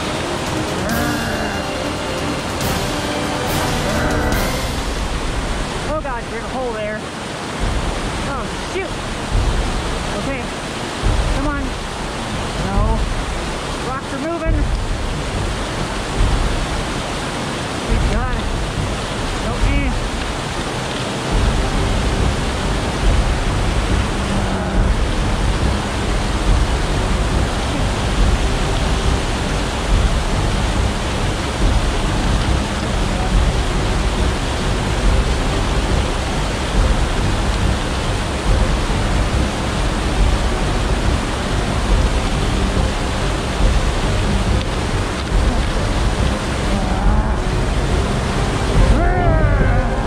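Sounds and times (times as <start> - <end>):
creek rushing over rocks: 0.0 - 50.0.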